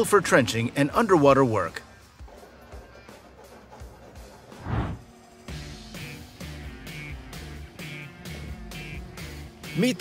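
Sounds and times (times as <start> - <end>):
background music with steady beat: 1.4 - 10.0.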